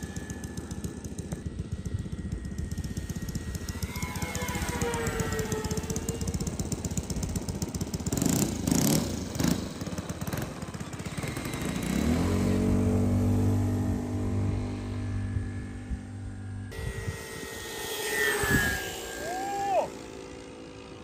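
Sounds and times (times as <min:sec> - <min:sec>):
small motor pulsing: 0:00.0 - 0:21.0.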